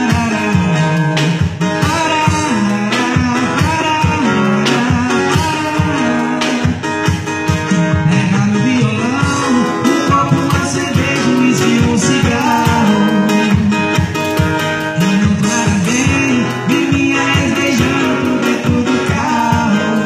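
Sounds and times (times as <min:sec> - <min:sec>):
guitar-led music with a beat: 0:00.0 - 0:20.0.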